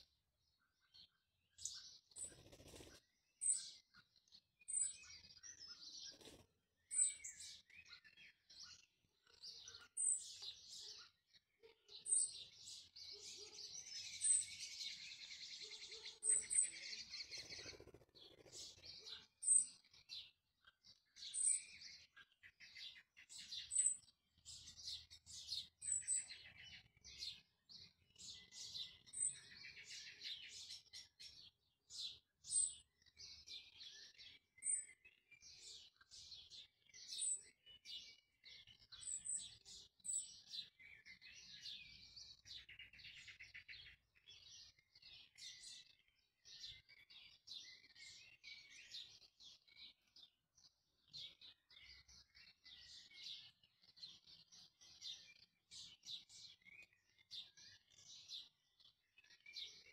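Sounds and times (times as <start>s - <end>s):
small bird chirping and warbling: 0.0s - 59.9s.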